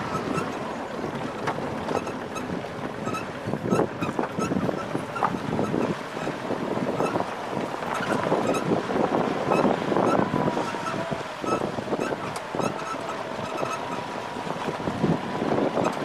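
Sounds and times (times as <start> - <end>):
vehicle driving on dirt track: 0.0 - 16.0
wind buffeting microphone: 0.0 - 16.0.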